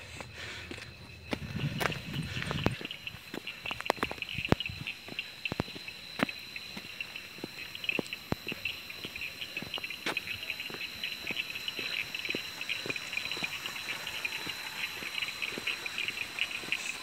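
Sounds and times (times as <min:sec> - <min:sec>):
crickets chirping: 0:00.0 - 0:17.0
footsteps on dirt track: 0:00.0 - 0:17.0
steady high drone: 0:00.0 - 0:17.0.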